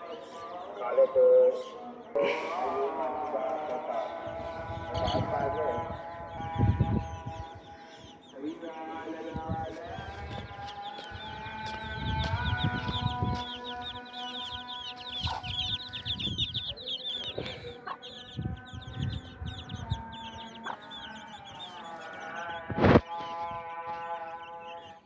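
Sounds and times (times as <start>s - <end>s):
chicks peeping: 0.0s - 25.0s
hen clucking: 1.0s - 7.3s, 9.3s - 24.0s.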